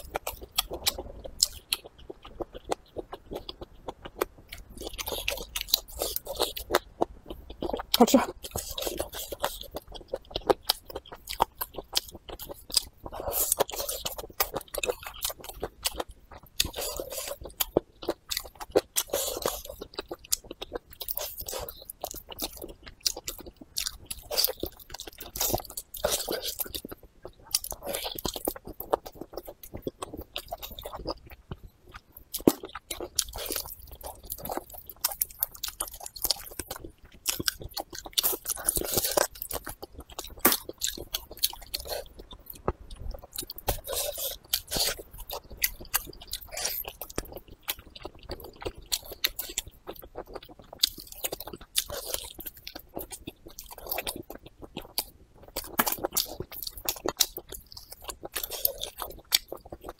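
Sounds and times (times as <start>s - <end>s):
person chewing and biting: 0.0s - 59.9s.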